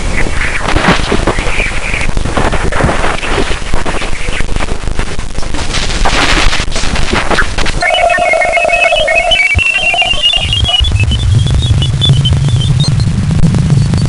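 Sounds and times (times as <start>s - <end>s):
dense crackling hiss: 0.0s - 14.0s.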